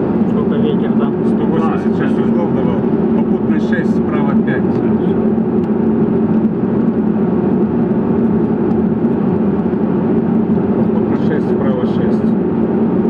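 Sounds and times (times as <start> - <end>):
jet engines humming: 0.0 - 13.0
rushing airflow: 0.0 - 13.0.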